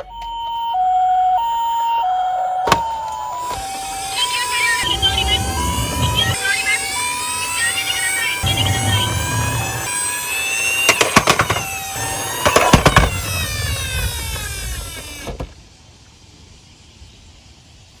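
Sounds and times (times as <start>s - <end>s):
toy electronic siren wailing: 0.0s - 15.3s.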